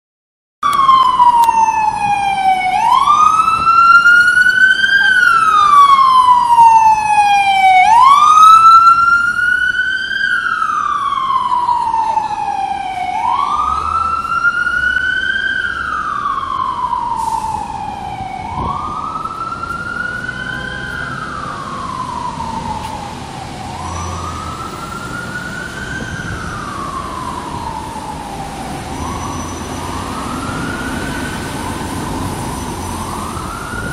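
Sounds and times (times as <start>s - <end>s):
emergency vehicle siren wailing: 0.6s - 33.9s.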